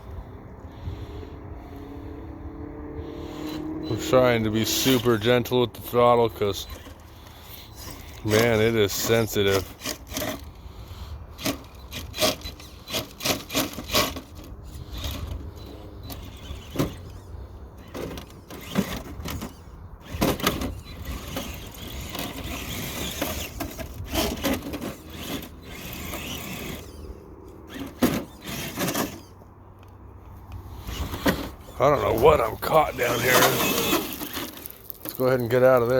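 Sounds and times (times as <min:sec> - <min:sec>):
rc truck tyres crunching on rocks: 0:04.0 - 0:10.6, 0:11.4 - 0:29.4, 0:30.2 - 0:35.9.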